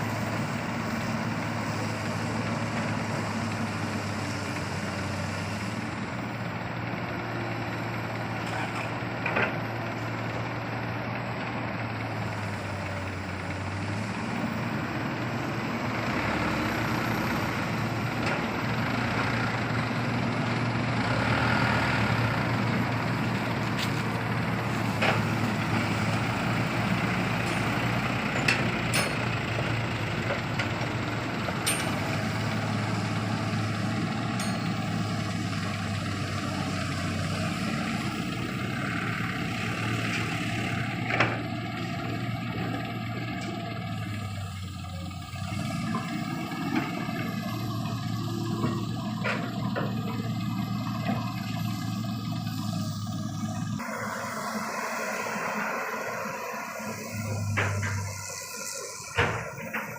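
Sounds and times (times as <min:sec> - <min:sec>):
diesel machinery engine running: 0:00.0 - 0:59.9.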